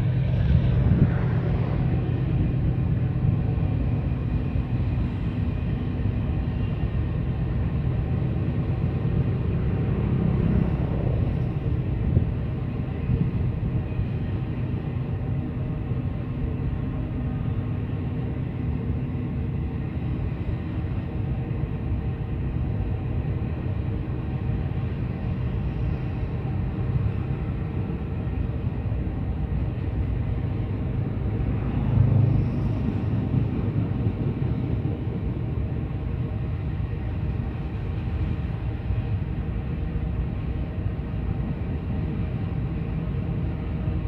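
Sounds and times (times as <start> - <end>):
train wagons rolling on rails: 0.0 - 44.0.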